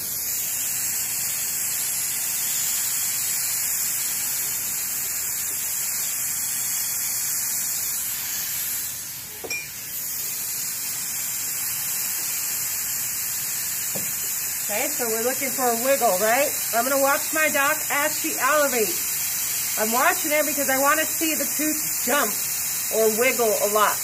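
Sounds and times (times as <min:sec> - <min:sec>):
dental suction hissing: 0:00.0 - 0:24.0.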